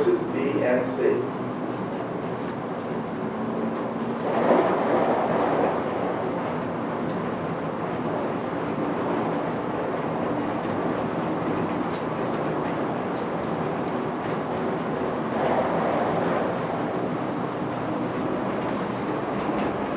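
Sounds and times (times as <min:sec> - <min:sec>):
train rolling rumble: 0:00.0 - 0:19.9.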